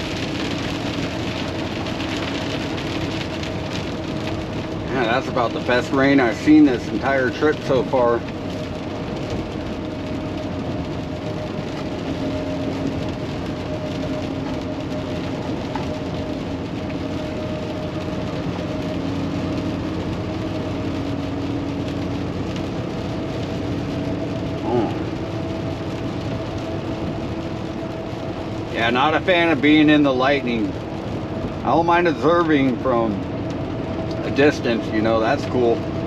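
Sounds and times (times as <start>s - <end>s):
truck engine cruising: 0.0s - 36.0s.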